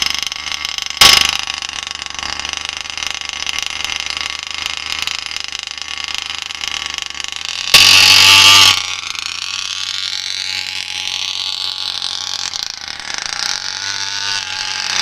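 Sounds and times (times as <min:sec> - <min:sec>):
model car engine running: 0:00.0 - 0:15.0.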